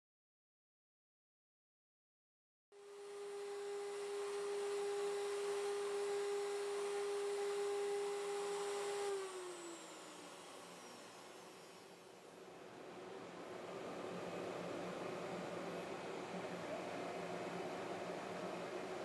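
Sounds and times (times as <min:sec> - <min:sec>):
router spindle whining: 0:02.8 - 0:19.0.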